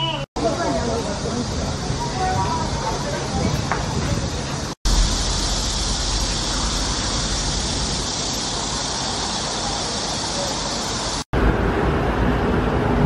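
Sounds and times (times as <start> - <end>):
low traffic rumble: 0.0 - 13.0
constant high hiss: 0.2 - 11.3.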